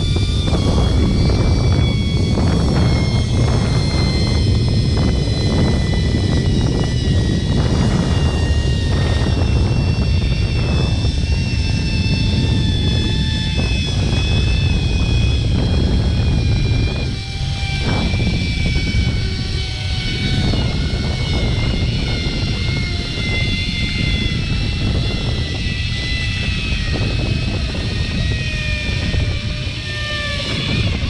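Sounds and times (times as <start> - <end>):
engine drone: 0.0 - 31.0
heavy low rumble: 0.0 - 31.0
high whine falling in pitch: 0.0 - 31.0.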